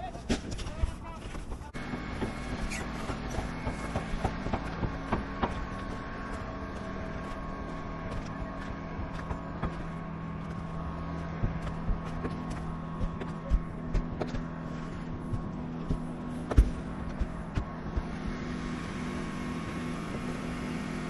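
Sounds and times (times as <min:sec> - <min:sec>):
machine engine running: 0:01.0 - 0:21.0.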